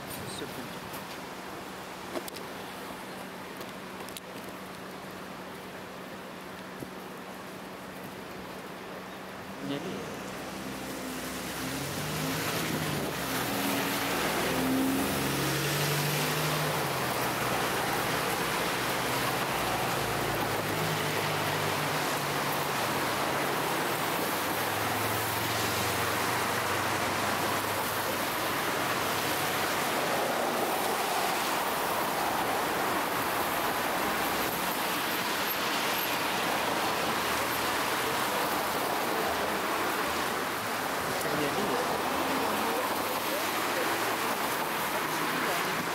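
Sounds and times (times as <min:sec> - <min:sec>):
vehicles hissing on wet road: 0:00.0 - 0:45.9.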